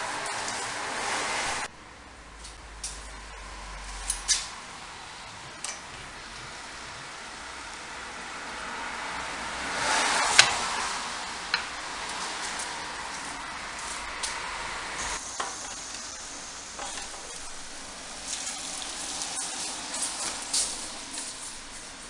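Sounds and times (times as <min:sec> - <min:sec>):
steady hiss: 0:02.5 - 0:22.0.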